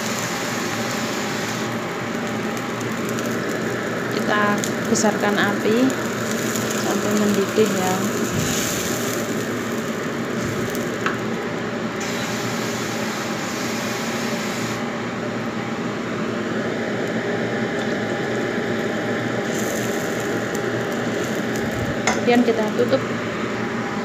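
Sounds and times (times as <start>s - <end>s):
broth heating in a wok: 0.0s - 24.0s.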